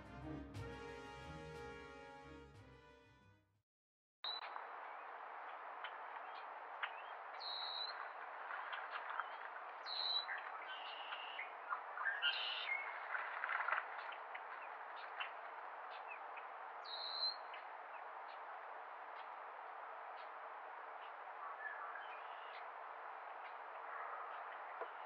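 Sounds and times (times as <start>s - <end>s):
small birds chirping: 4.2s - 25.0s.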